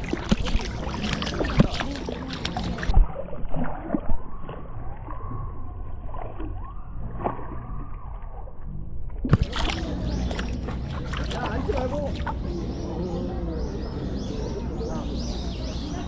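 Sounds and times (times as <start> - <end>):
water splashing around wading dog: 0.0 - 13.3.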